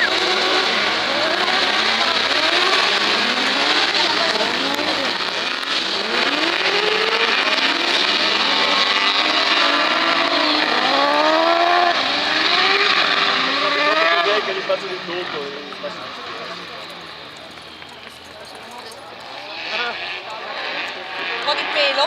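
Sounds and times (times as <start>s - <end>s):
racing buggy engines revving: 0.0s - 22.0s.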